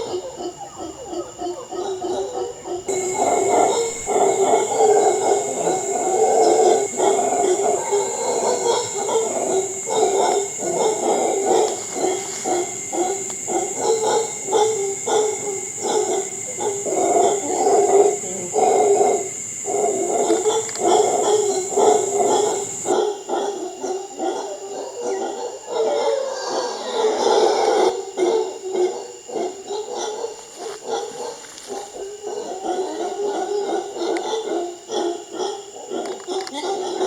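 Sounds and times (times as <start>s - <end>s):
howler monkeys roaring: 0.0s - 30.2s.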